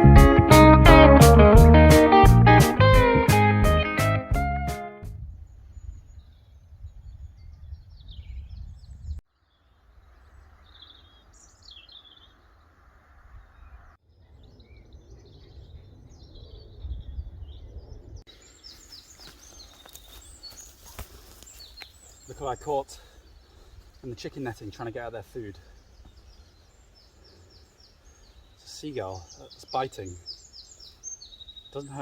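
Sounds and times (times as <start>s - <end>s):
birds chirping: 5.4s - 32.0s.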